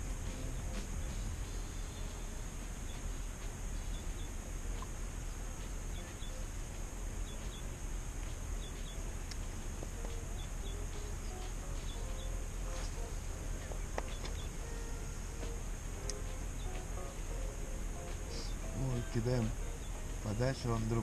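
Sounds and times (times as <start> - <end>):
high insect buzz: 0.0 - 21.0
small bird chirping: 0.3 - 21.0.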